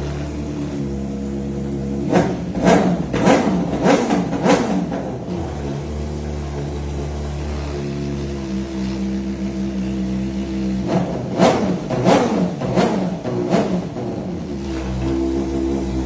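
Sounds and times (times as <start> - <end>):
motorcycle engine idling: 0.0 - 16.0
motorcycle engine revving: 0.0 - 16.0.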